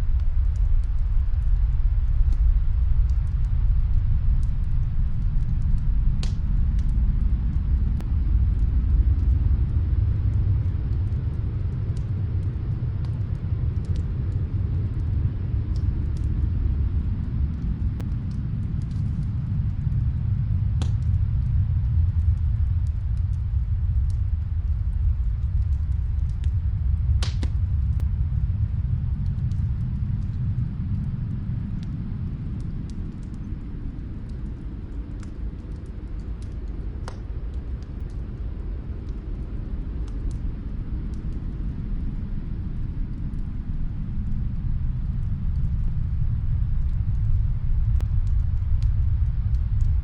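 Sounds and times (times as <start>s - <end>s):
faint fireplace crackling: 0.0s - 50.0s
snowstorm wind rumbling: 0.0s - 50.0s.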